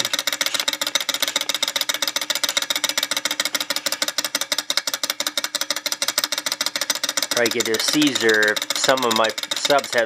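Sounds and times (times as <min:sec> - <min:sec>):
model engine ticking clatter: 0:00.0 - 0:10.0.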